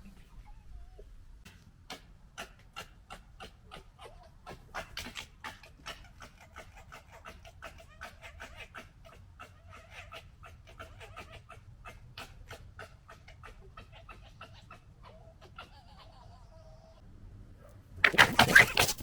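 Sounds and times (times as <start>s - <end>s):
foxes gekkering: 1.9s - 17.0s, 18.0s - 19.0s.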